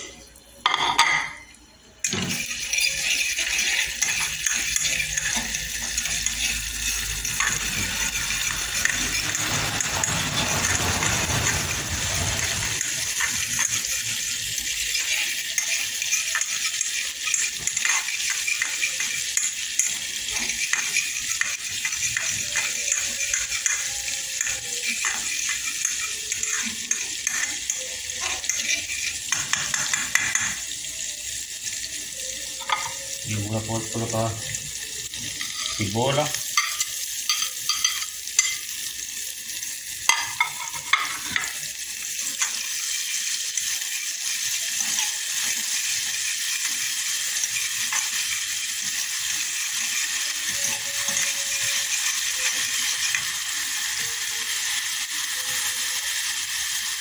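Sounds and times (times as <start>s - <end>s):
ginger sizzling in hot oil: 0.0s - 57.0s.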